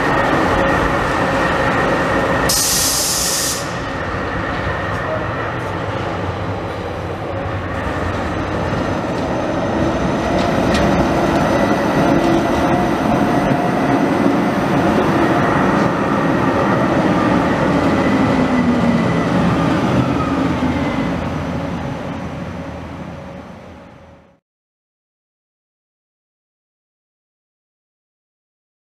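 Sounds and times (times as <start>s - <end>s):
tram wheels rumbling on rails: 0.0s - 3.0s, 3.6s - 24.4s.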